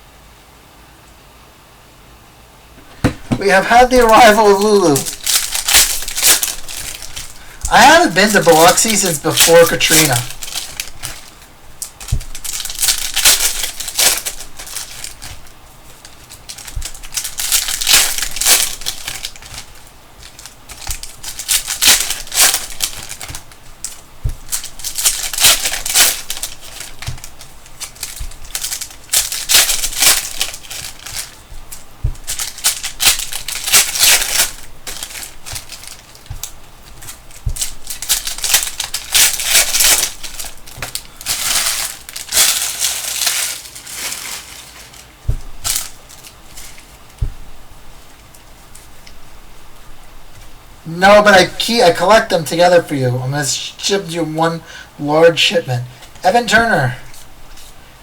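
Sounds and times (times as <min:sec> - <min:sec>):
cards being handled: 0:02.8 - 0:52.8
plastic wrappers crinkling and tearing: 0:03.4 - 0:52.8, 0:56.0 - 0:57.9.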